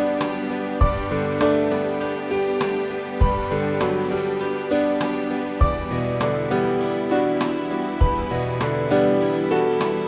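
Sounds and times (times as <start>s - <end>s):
slow soft background music: 0.0s - 10.0s.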